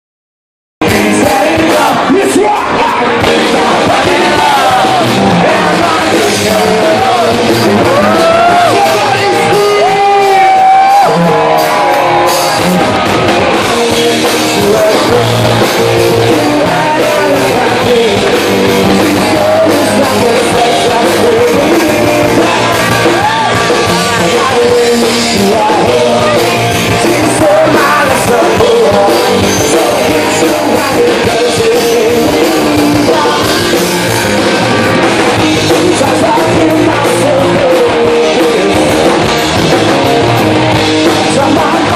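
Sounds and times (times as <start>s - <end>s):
live rock band playing: 0.8s - 41.9s
man singing: 0.8s - 41.9s.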